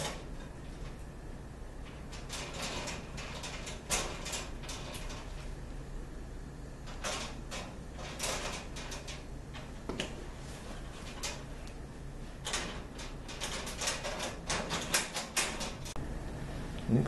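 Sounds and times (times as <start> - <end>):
metal cabinet parts clicking and clanking: 0.0 - 1.1, 1.8 - 5.6, 6.8 - 16.0.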